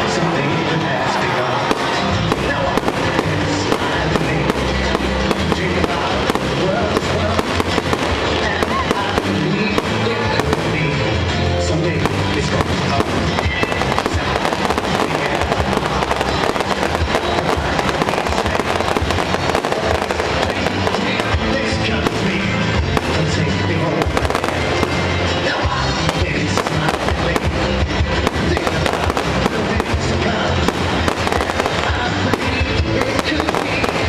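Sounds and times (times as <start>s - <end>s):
fireworks bangs and crackles: 0.0s - 34.0s
music playing: 0.0s - 34.0s.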